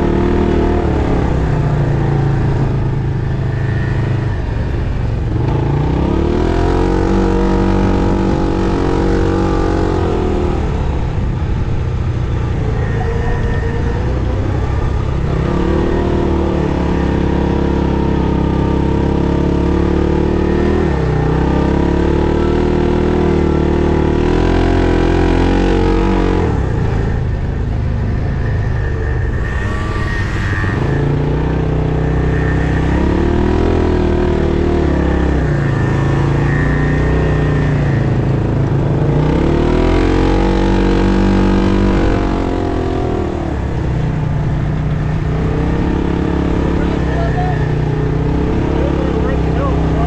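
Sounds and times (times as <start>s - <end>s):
vehicle engine revving: 0.0s - 50.0s.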